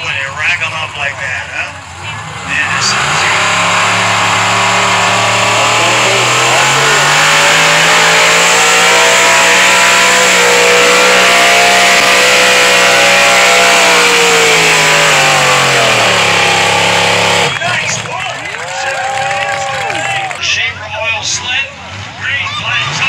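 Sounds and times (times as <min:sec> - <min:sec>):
truck engine revving: 0:00.0 - 0:20.6.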